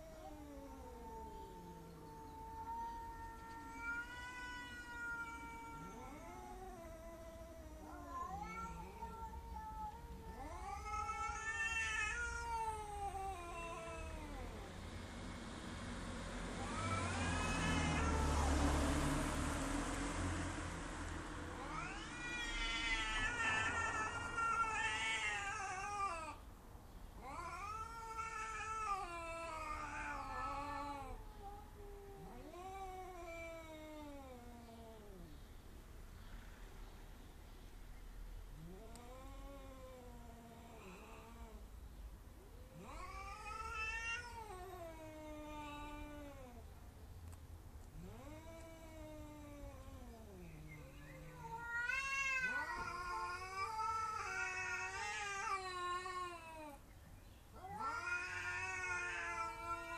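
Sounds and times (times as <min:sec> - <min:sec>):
cats caterwauling: 0:00.0 - 0:14.8, 0:16.4 - 0:19.5, 0:21.5 - 0:26.4, 0:27.2 - 0:35.3, 0:38.5 - 0:41.7, 0:42.4 - 0:46.7, 0:47.9 - 0:56.9, 0:57.5 - 0:59.9.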